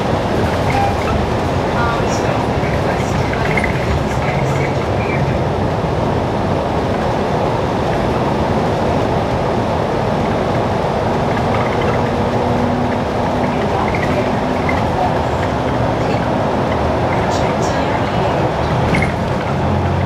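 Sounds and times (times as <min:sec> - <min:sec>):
bus cabin rumble: 0:00.0 - 0:20.0.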